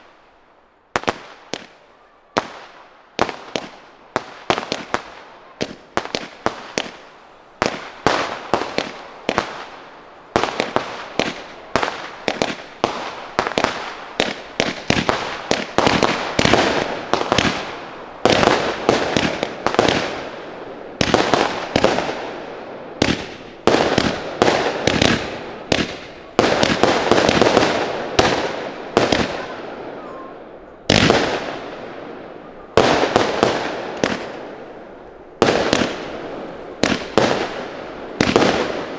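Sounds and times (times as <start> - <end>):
hiss of bursting fireworks: 0.0 - 38.9
fireworks banging: 0.9 - 38.9.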